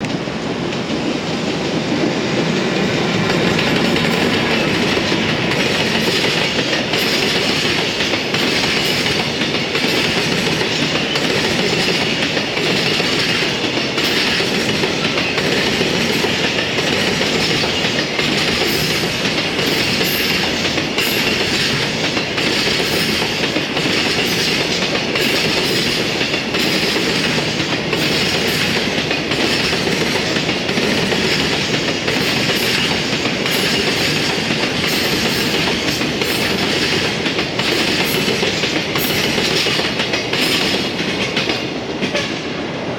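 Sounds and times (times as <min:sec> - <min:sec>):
wheels clicking over rail joints: 0:00.0 - 0:42.5
freight train wagons rumbling: 0:00.0 - 0:42.9.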